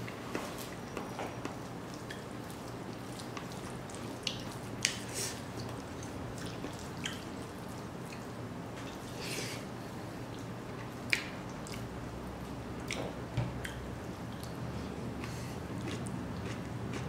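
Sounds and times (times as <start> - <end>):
chewing: 0.0 - 9.4, 10.2 - 17.0.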